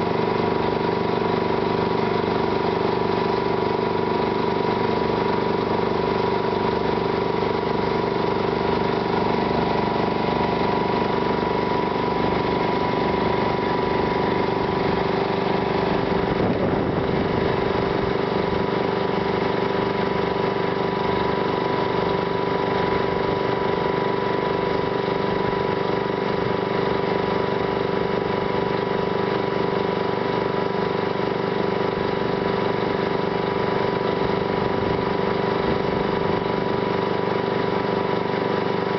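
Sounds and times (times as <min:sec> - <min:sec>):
pump engine whining hum: 0:00.0 - 0:38.9.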